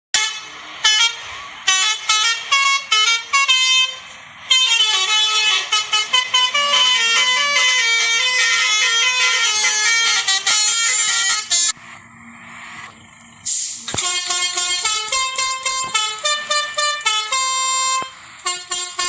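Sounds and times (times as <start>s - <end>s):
multi-tone musical bus horn: 0.1s - 11.8s, 13.9s - 19.0s.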